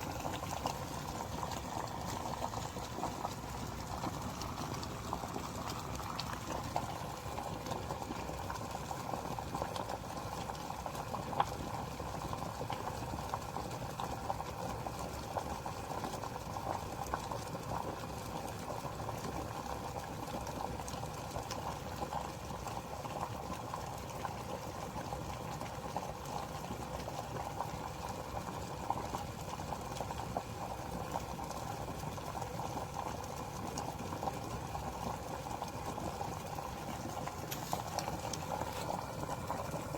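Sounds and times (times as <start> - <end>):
electric kettle boiling water: 0.0 - 39.9.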